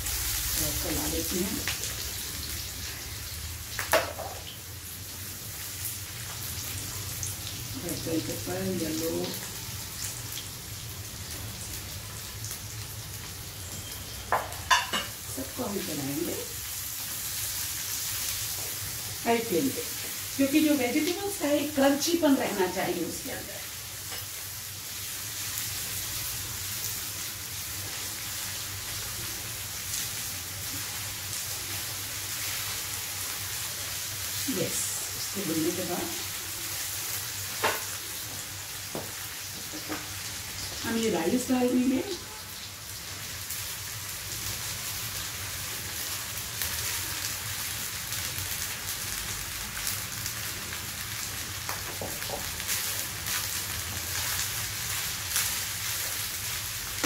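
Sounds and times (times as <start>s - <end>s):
vegetables sizzling in a wok: 0.0s - 57.0s.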